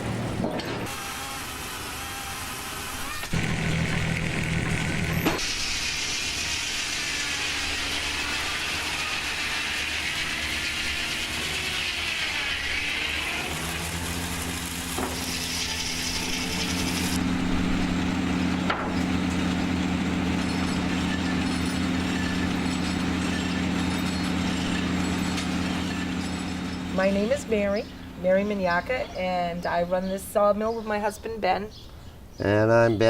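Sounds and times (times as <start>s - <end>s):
circular saw cutting wood: 0.0s - 29.0s
sawmill machinery humming: 0.0s - 30.6s.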